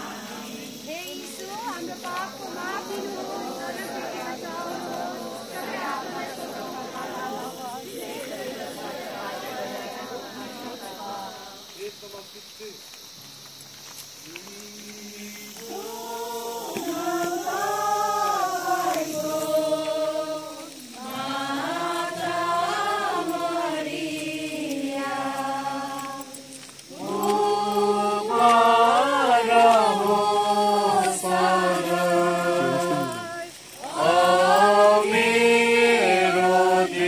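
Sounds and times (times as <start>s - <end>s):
group singing a hymn: 0.0s - 12.1s, 14.2s - 37.0s.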